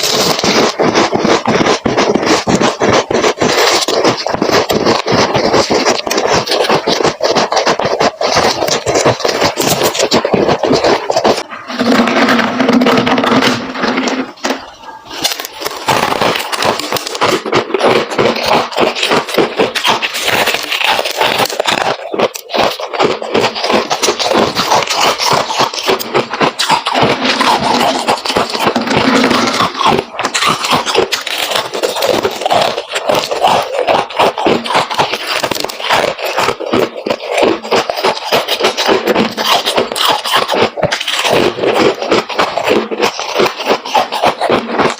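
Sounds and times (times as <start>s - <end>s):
chewing and crunching frost: 0.0s - 44.9s.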